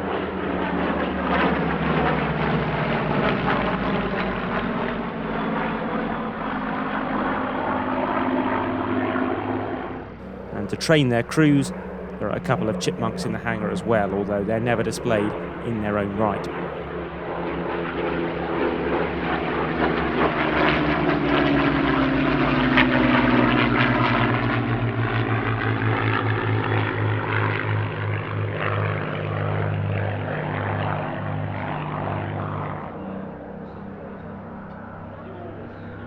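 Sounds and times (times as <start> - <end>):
propeller plane flying past: 0.0 - 36.0.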